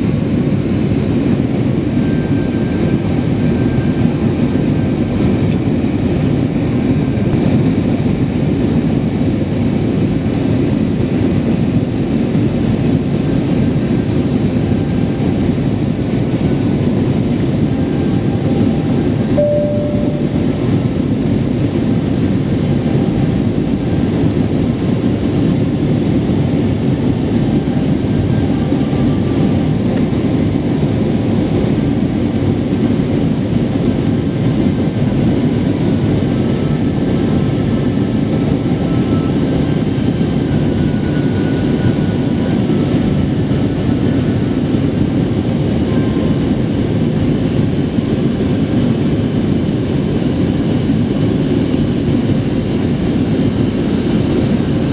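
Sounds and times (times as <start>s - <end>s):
airliner cabin engine noise: 0.0s - 54.9s.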